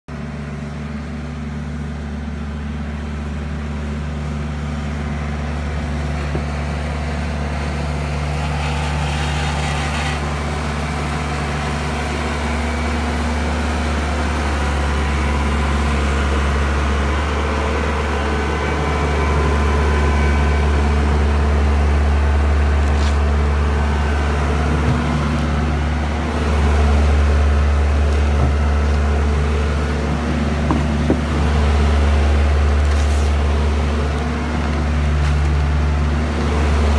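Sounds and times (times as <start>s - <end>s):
diesel engine running: 0.1s - 36.9s.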